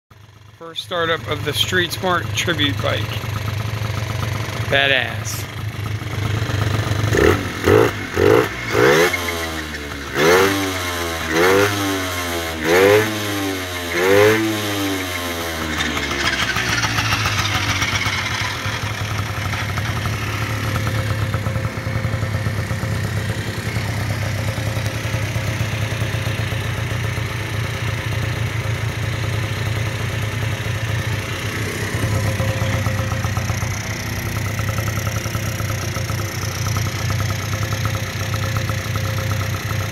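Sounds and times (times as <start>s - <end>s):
moped engine revving and idling: 0.1s - 39.9s.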